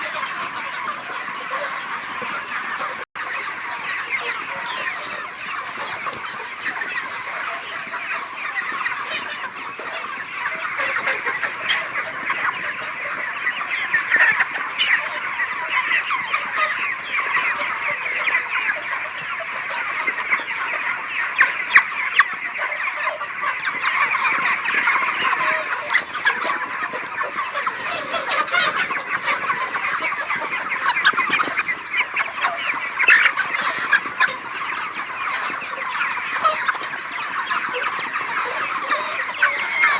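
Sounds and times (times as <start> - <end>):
chickens clucking and cheeping: 0.0 - 39.9.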